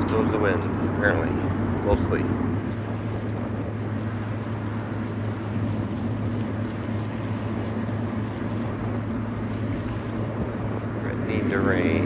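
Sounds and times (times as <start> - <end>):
wind across microphone: 0.0 - 12.0.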